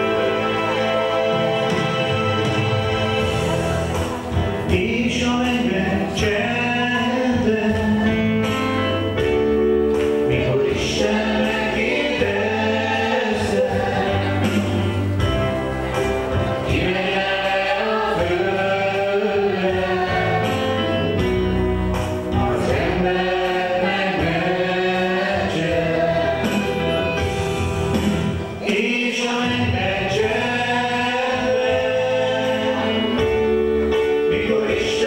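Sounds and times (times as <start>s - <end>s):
congregation singing: 0.0s - 35.0s.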